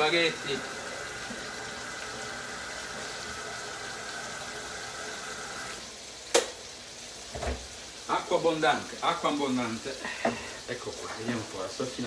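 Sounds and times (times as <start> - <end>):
water pouring into pot: 0.0 - 12.0.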